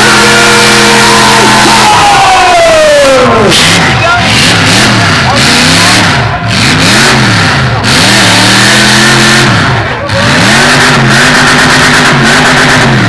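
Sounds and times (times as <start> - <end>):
car engine revving hard: 0.0 - 2.4, 3.0 - 13.0.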